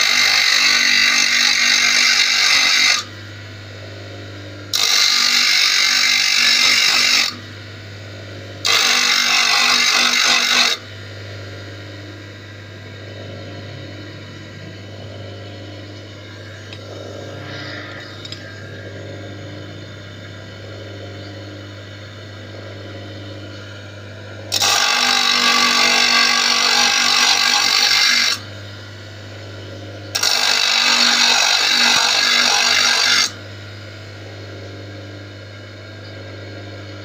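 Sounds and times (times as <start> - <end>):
electric grinder motor humming: 0.0 - 3.2, 4.3 - 28.6, 30.0 - 33.5.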